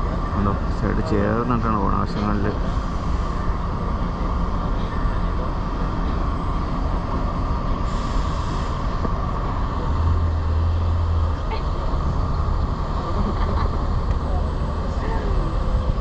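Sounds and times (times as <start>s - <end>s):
towing locomotive rumbling: 0.0s - 16.0s.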